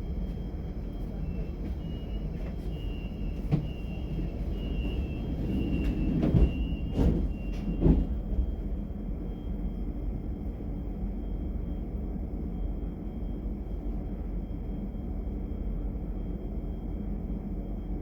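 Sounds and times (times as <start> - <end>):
train running low rumble: 0.0 - 18.0.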